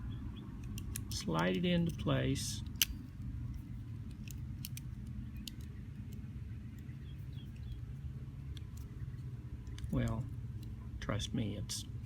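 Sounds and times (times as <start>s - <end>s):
low background rumble: 0.0s - 12.0s
small metal clicks and scrapes: 0.6s - 10.8s.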